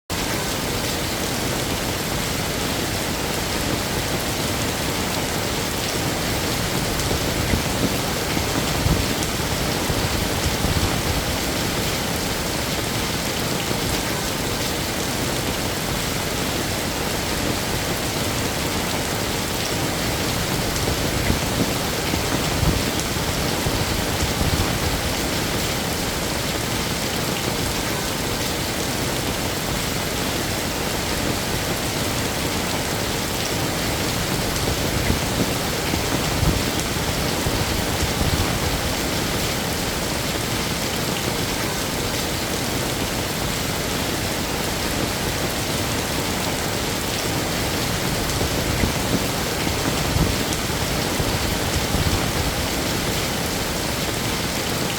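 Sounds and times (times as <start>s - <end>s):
heavy rain falling: 0.1s - 54.9s.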